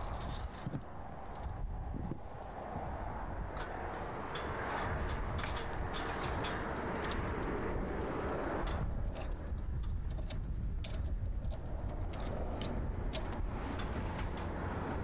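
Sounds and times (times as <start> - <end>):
metal clicks and ticks: 0.0 - 1.7, 3.4 - 15.0.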